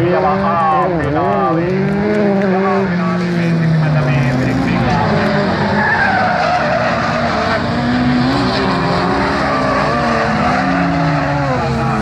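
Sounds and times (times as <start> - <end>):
race car engines running hard: 0.0 - 12.0.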